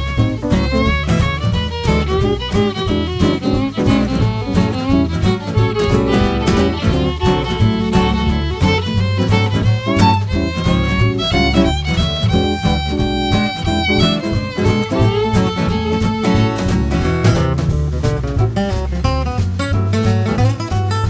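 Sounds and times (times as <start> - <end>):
fiddle melody: 0.0 - 18.0
guitar: 0.0 - 21.0
pulsing bass line: 0.0 - 21.0.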